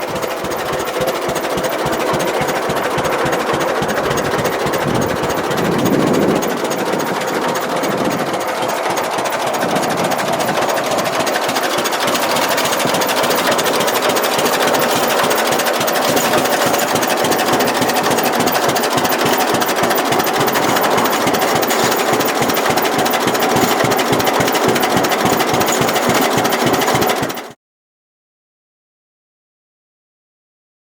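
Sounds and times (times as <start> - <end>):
tractor engine running: 0.0 - 27.6.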